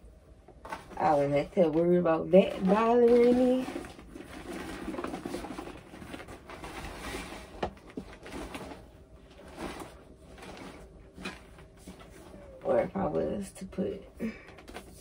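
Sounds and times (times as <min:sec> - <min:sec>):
rustling of clothes in bag: 0:00.6 - 0:13.4.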